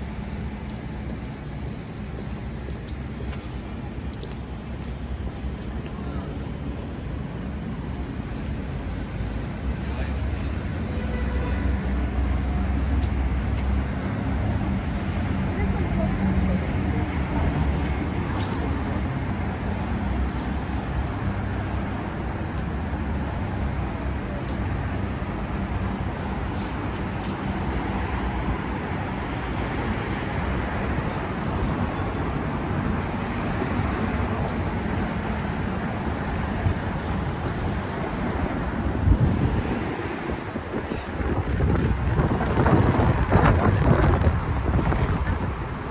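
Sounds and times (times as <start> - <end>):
city street traffic: 0.0 - 45.9.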